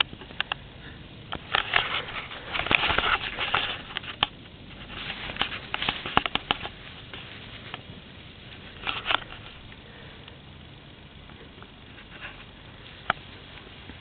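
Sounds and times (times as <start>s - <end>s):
rabbit rustling: 0.0s - 14.0s.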